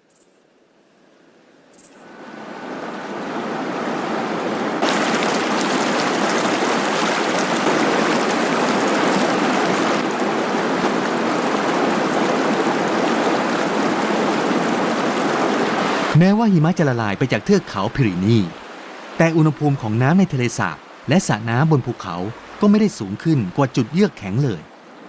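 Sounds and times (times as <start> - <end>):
rushing stream water: 2.1 - 25.0.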